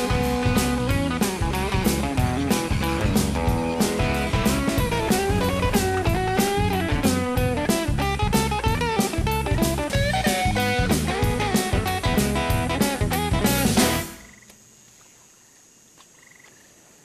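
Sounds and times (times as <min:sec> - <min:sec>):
blues guitar lead: 0:00.0 - 0:14.2
steady drum beat: 0:00.0 - 0:14.2
bass: 0:00.0 - 0:14.3.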